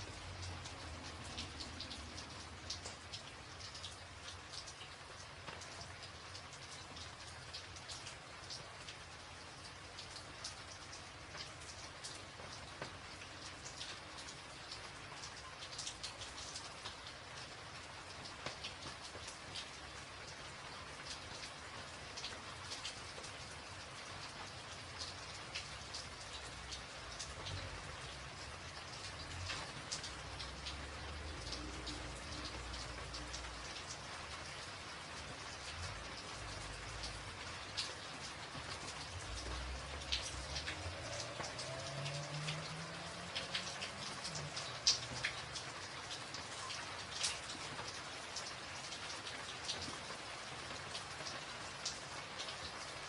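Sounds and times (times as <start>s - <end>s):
rain on a tin roof: 0.0s - 53.0s.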